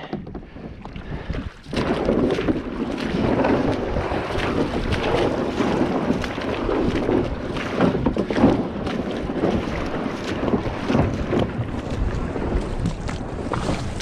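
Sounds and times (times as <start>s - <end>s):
water splashing around kayak: 0.0s - 14.0s
wind buffeting microphone: 0.0s - 14.0s.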